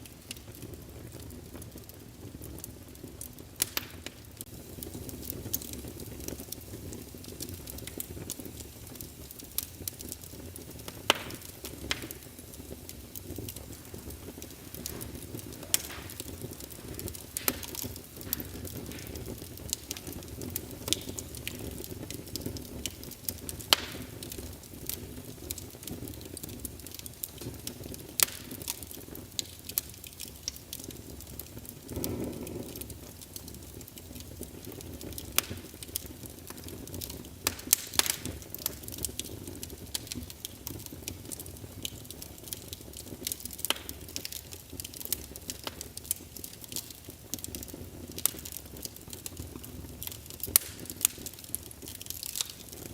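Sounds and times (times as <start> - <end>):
low rush of flame: 0.0 - 49.1
fire crackling and popping: 0.0 - 52.9.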